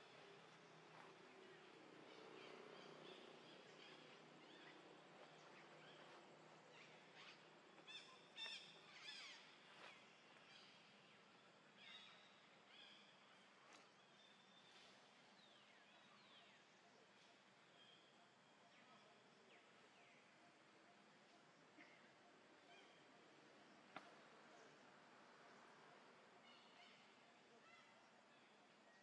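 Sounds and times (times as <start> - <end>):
faint outdoor ambience: 0.0 - 29.0.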